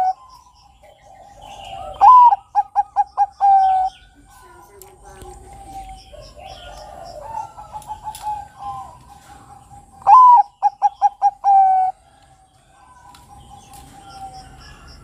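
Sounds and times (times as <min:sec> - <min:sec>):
bird song phrase: 0:00.0 - 0:15.0
dove cooing: 0:00.0 - 0:15.0.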